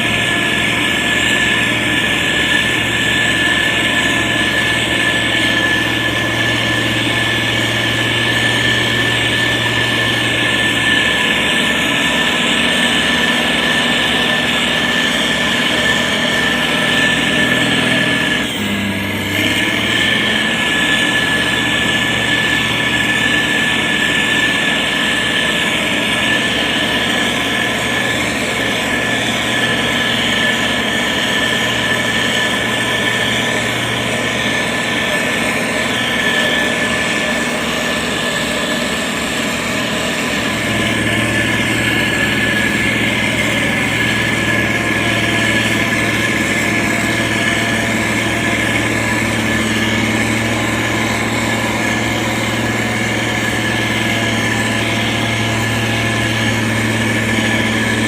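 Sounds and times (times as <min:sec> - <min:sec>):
diesel engine running: 0:00.0 - 0:58.0
high whine: 0:00.0 - 0:58.0.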